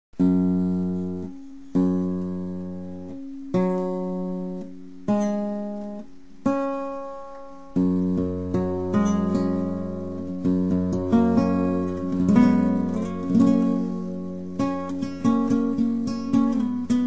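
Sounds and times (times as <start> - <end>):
acoustic guitar chords: 0.2 - 17.0.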